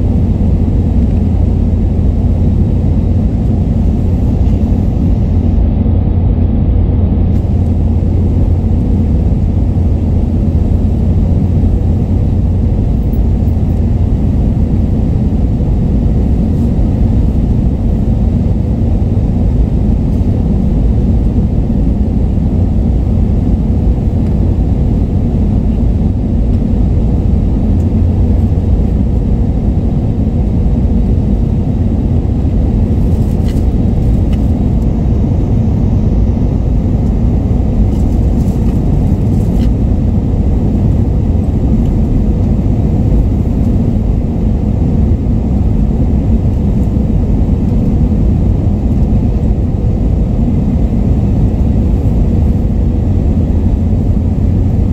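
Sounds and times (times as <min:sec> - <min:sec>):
airliner cabin rumble: 0:00.0 - 0:54.9
faint steady hum: 0:00.0 - 0:54.9.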